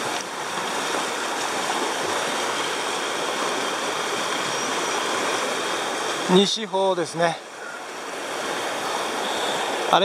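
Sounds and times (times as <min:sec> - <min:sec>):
river rushing over gravel: 0:00.0 - 0:10.0.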